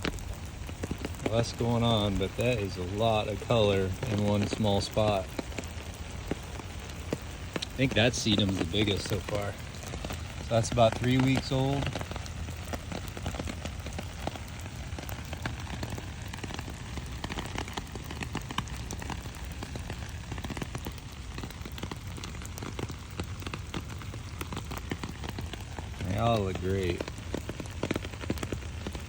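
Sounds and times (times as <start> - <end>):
rain falling on plants: 0.0 - 29.0.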